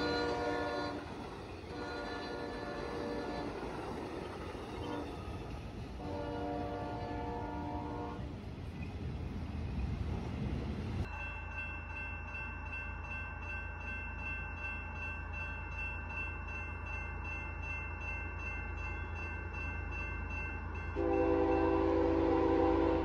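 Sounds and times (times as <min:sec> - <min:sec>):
crossing warning bell ringing: 0:00.0 - 0:08.2, 0:11.0 - 0:23.0
freight train rumble: 0:00.0 - 0:23.0.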